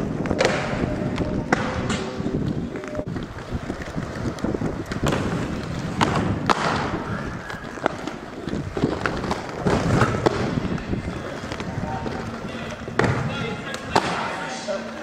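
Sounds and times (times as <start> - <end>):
skate wheels rolling on concrete: 0.0 - 15.0.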